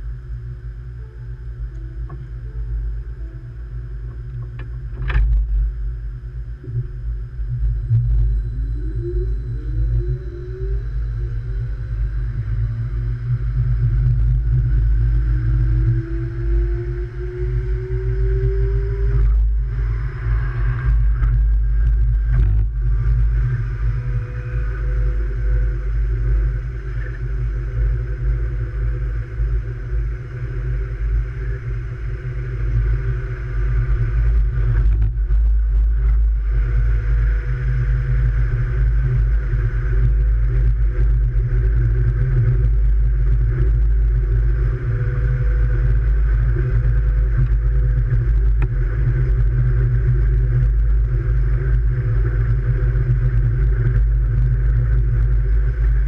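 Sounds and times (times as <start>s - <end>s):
faint rising whine: 0.0s - 56.0s.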